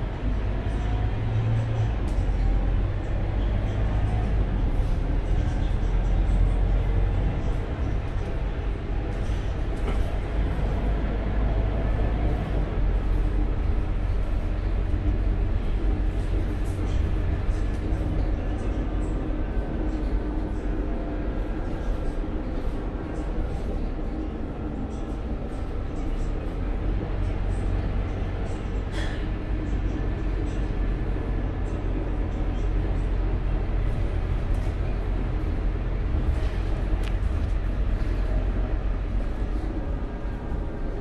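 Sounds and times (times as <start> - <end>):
bus diesel engine rumble: 0.0 - 41.0
road noise: 0.0 - 41.0.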